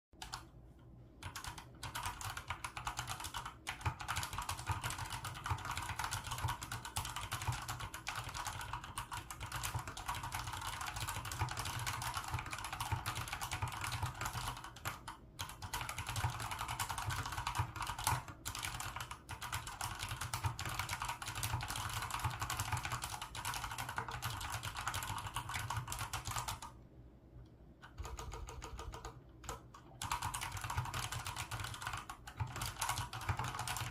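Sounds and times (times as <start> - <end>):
mechanical keyboard typing: 0.2 - 0.5, 1.2 - 26.8, 27.8 - 33.9.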